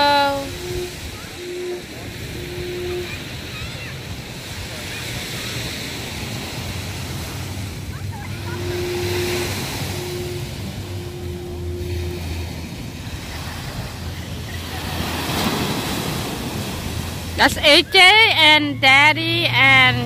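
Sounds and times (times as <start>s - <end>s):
wind on microphone: 0.0s - 18.0s
steady low tone: 0.0s - 20.0s.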